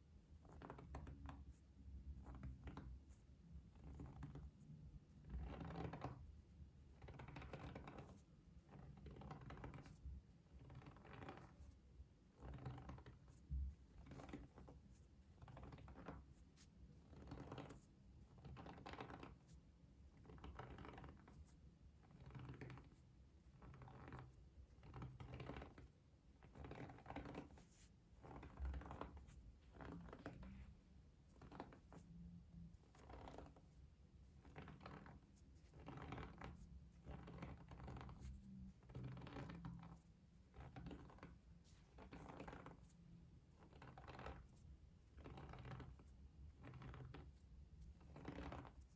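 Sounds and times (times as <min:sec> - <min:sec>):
soft scratching strokes: 0:07.0 - 0:48.9.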